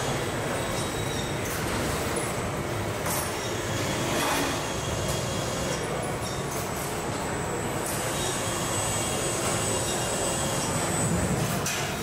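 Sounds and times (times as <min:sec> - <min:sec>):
faint machine whines: 0:00.0 - 0:12.0.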